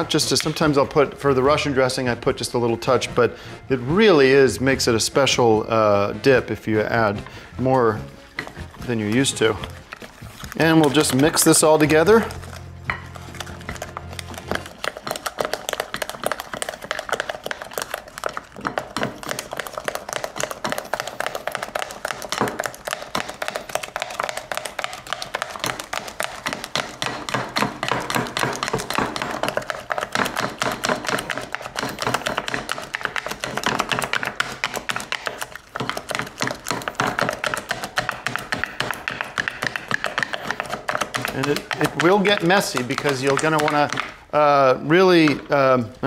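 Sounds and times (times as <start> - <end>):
dip squelching in glass bowl: 7.0 - 44.3.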